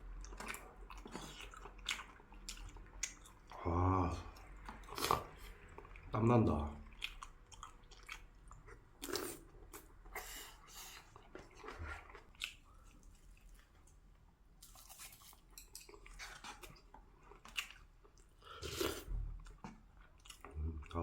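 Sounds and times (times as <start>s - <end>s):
person chewing food: 0.0s - 6.1s, 6.8s - 21.0s.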